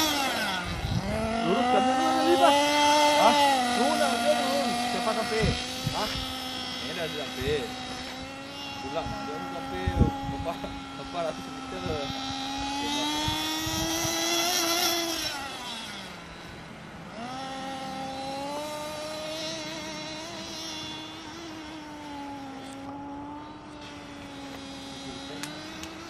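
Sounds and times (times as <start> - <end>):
rc car engine whining: 0.0 - 26.0.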